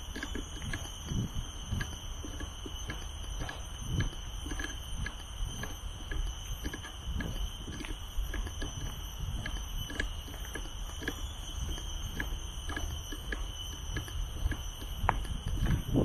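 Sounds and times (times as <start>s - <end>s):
footsteps on trail: 0.0s - 16.0s
high-pitched hum: 0.0s - 16.0s.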